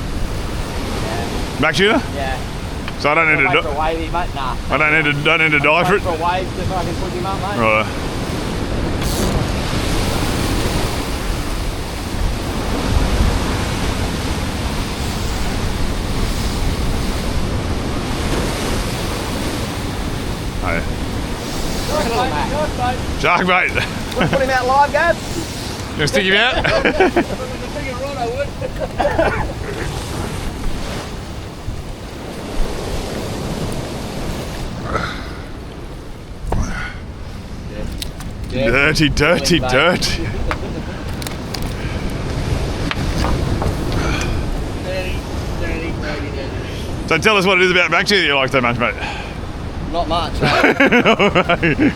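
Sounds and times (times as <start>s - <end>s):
wind rumble on microphone: 0.0s - 47.1s
ocean swell washing over rocks: 0.0s - 51.9s.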